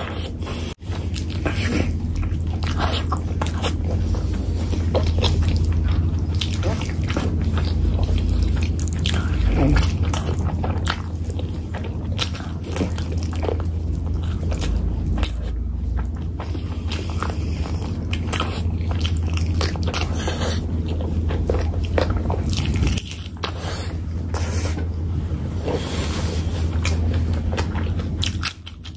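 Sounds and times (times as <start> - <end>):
steady low hum: 0.0 - 28.9
wet chewing and smacking: 0.0 - 28.9.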